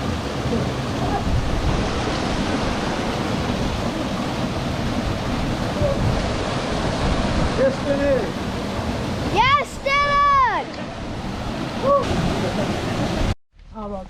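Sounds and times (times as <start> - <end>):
waterfall rushing into pool: 0.0 - 13.4
wind rumble on microphone: 0.0 - 13.4.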